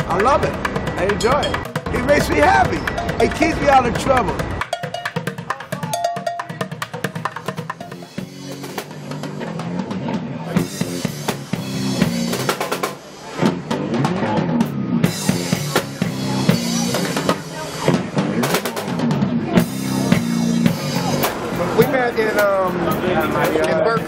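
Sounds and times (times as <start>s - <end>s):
bass line: 0.0s - 23.4s
drum kit groove: 0.0s - 24.0s.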